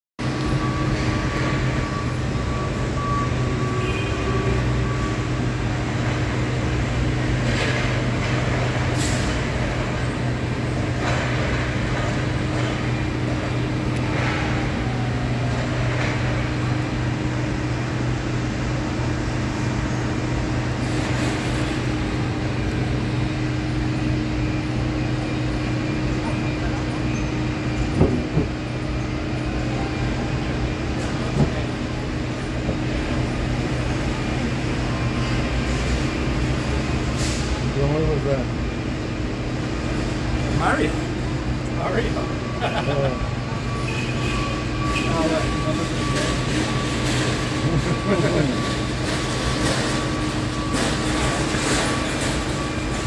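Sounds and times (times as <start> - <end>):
ship machinery humming: 0.2 - 53.0.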